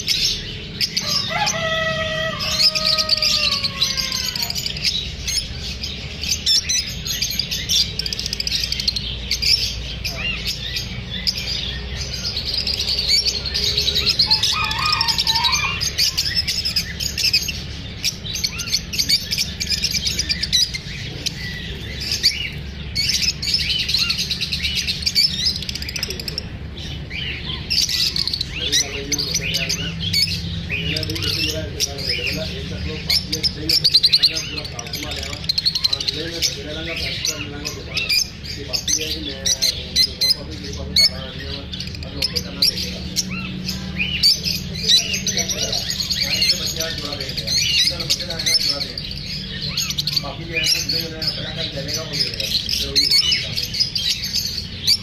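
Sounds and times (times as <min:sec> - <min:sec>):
lovebirds chattering: 0:00.0 - 0:55.0.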